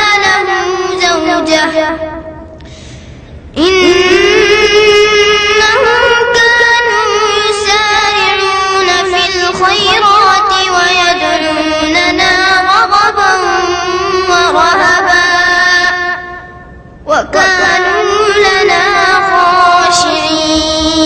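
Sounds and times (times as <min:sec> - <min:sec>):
child reciting melodically: 0:00.0 - 0:02.6, 0:03.6 - 0:21.0.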